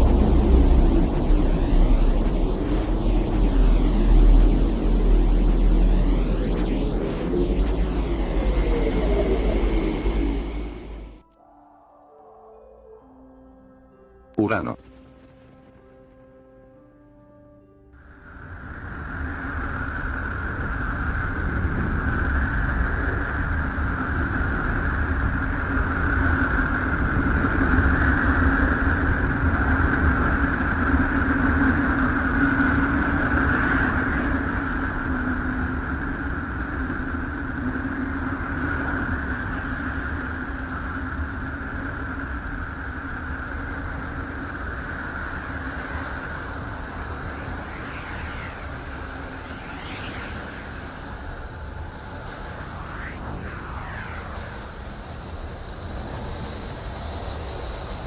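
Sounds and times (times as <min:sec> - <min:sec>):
rushing rumble with hiss and drone: 0:00.0 - 0:11.3, 0:18.0 - 0:58.0.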